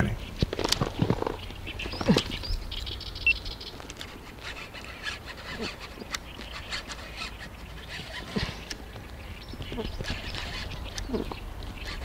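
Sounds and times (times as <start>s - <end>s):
fishing reel clicks and rustling: 0.4s - 12.0s.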